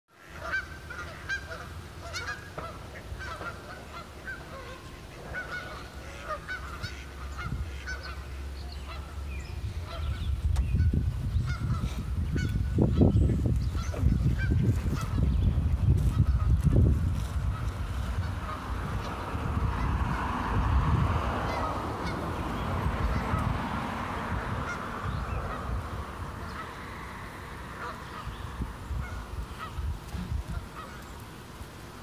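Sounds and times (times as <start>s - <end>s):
birds calling: 0.1s - 32.0s.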